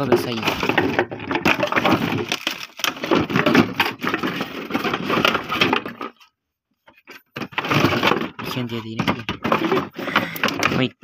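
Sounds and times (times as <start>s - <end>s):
plastic bottles crackling: 0.0s - 6.3s, 6.9s - 11.0s.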